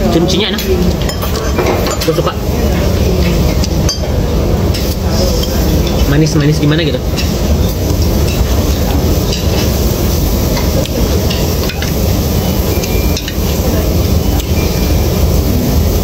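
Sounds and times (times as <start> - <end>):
rumbling background noise: 0.0 - 16.0.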